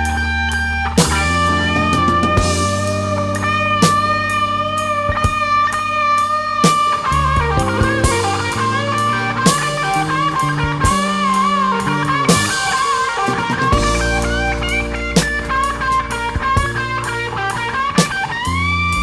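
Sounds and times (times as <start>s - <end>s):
bass and drums: 0.0s - 19.0s
electric guitar solo: 0.0s - 19.0s.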